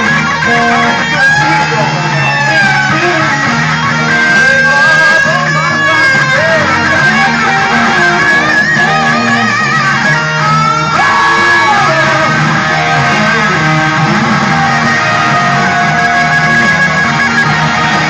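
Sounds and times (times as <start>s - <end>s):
bass line: 0.0s - 18.0s
blues-rock electric guitar: 0.0s - 18.0s.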